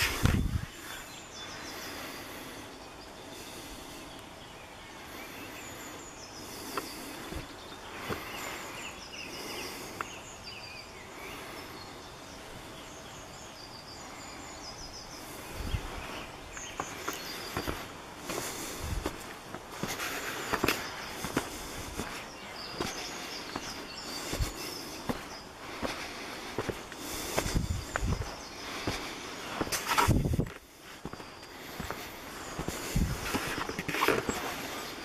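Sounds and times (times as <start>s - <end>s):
small birds chirping: 0.0s - 35.0s
steady background hiss: 0.0s - 35.0s.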